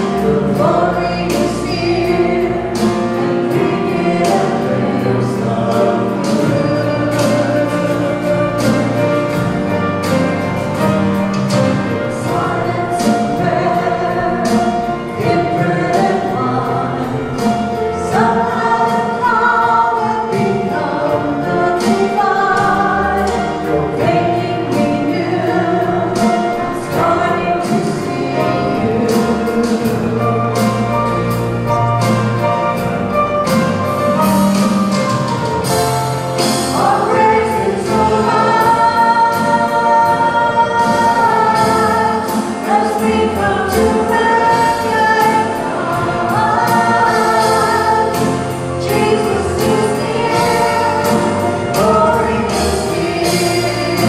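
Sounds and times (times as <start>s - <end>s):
women singing in harmony: 0.0s - 9.6s, 12.1s - 30.9s, 36.4s - 54.0s
electric bass: 0.0s - 54.0s
steady drum beat: 0.0s - 54.0s.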